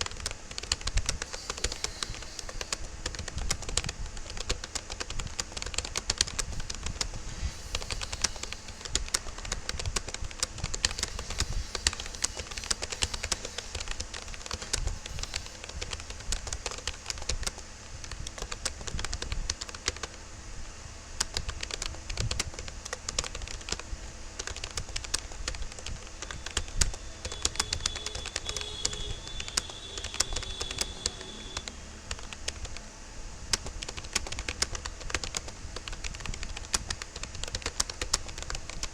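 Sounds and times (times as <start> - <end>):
fast typing on keyboard: 0.0 - 20.2, 21.2 - 32.8, 33.5 - 38.9.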